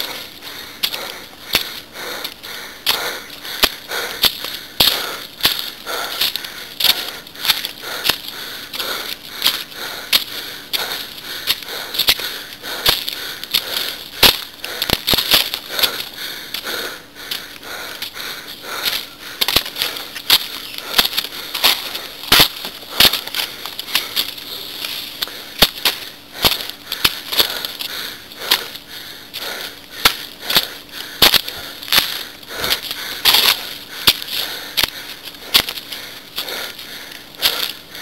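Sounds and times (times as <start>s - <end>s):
steady high hiss: 0.0s - 38.0s
footsteps crunching on dry leaves: 0.1s - 16.6s, 17.3s - 38.0s.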